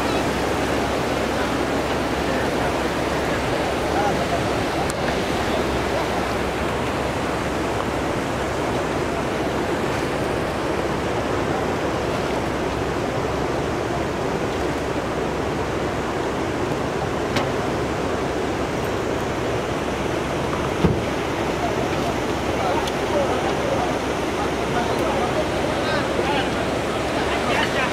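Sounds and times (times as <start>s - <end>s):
floodwater rushing: 0.0s - 27.9s.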